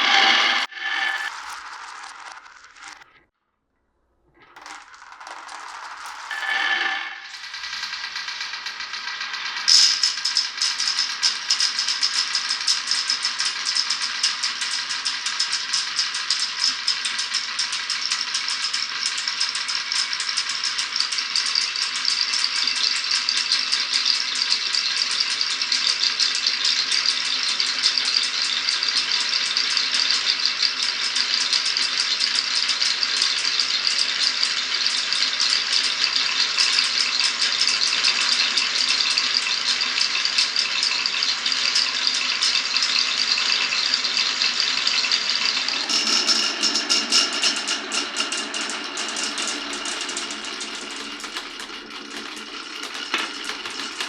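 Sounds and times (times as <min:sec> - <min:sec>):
marbles rattling down a marble run: 0:00.0 - 0:03.1, 0:04.4 - 0:54.0.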